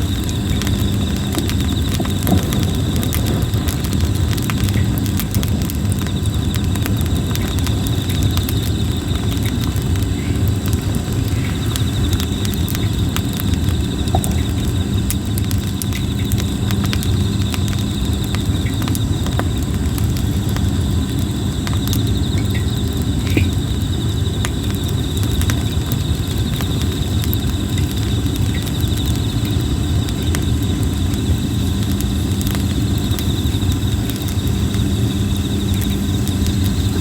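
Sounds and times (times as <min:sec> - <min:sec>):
campfire crackling and popping: 0:00.0 - 0:37.0
insects chirping: 0:00.0 - 0:37.0
low steady fire rumble: 0:00.0 - 0:37.0.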